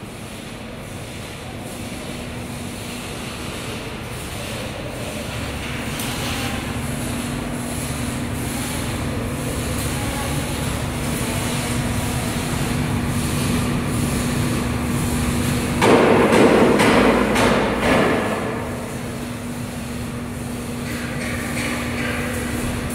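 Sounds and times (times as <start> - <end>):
loud rough machine noise: 0.0 - 22.9
machinery humming: 0.0 - 22.9.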